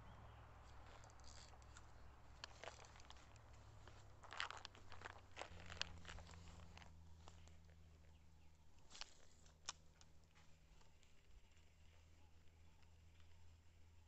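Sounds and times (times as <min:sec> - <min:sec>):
low steady hum: 0:00.0 - 0:14.0
faint crackles and ticks: 0:00.6 - 0:14.0.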